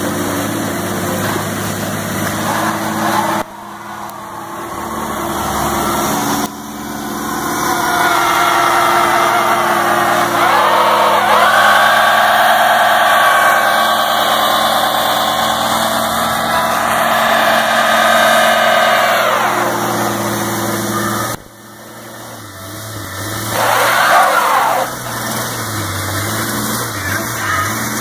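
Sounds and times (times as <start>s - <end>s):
pickup engine revving: 0.0s - 28.0s.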